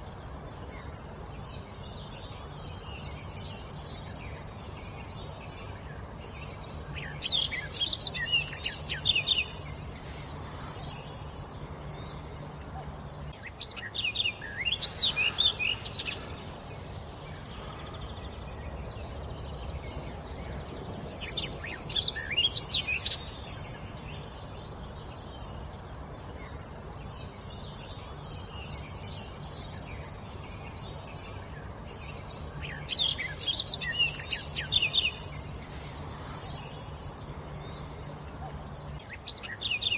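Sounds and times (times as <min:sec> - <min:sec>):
faint background noise: 0:00.0 - 0:39.9
songbird singing: 0:00.0 - 0:39.9.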